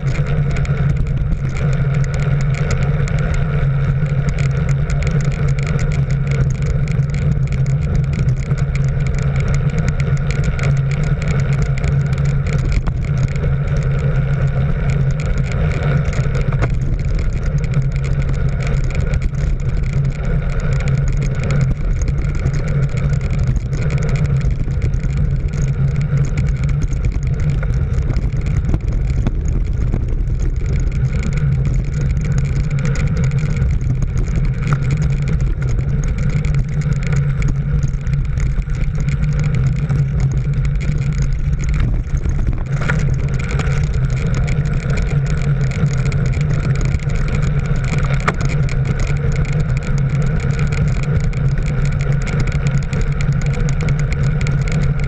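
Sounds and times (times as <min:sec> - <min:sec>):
vehicle engine hum: 0:00.0 - 0:55.0
wind and road noise: 0:00.0 - 0:55.0.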